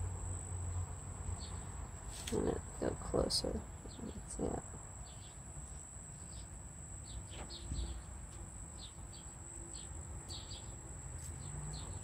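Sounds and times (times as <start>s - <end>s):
small birds chirping: 0.6s - 12.0s.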